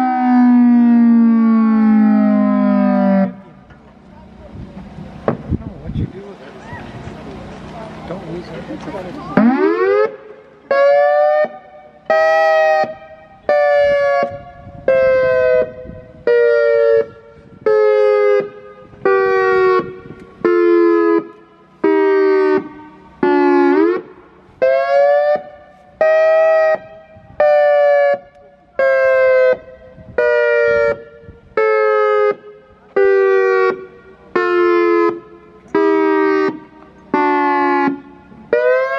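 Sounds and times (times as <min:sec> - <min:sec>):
pulsed warning siren: 0:00.0 - 0:05.4, 0:06.8 - 0:38.9.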